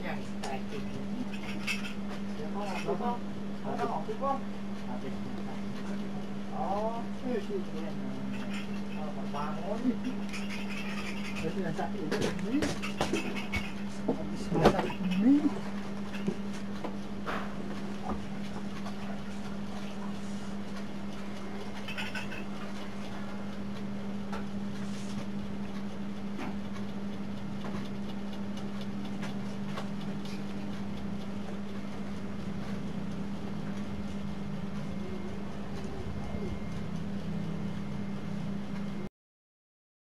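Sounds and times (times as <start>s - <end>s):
low electrical hum: 0.0s - 39.1s.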